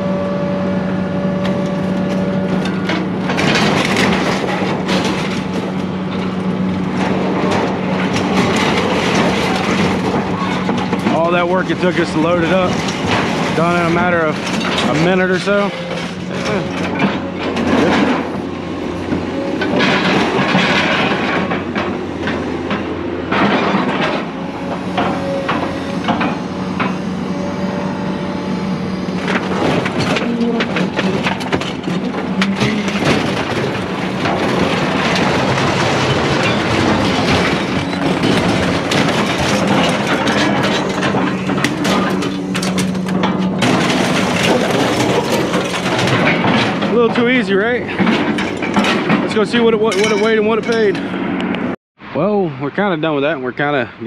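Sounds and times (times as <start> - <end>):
grapple machine engine running: 0.0 - 51.8
scrap metal clanking and scraping: 1.2 - 51.6.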